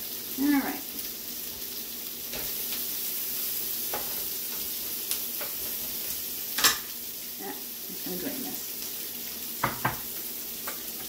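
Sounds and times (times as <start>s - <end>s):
peppers sizzling in a frying pan: 0.0s - 11.0s.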